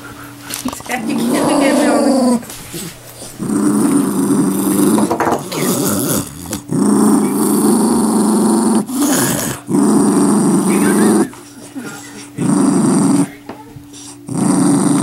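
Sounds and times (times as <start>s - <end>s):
dog growling: 0.6s - 15.0s.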